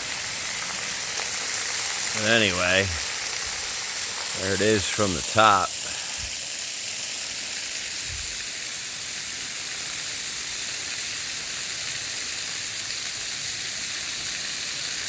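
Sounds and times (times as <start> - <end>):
small waterfall pouring: 0.0 - 15.0.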